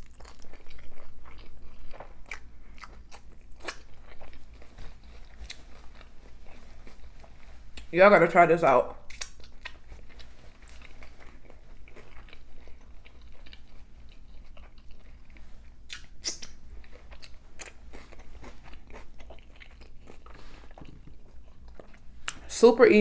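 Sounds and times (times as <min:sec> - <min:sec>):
wet chewing with crunches: 0:00.0 - 0:07.9, 0:09.0 - 0:22.5.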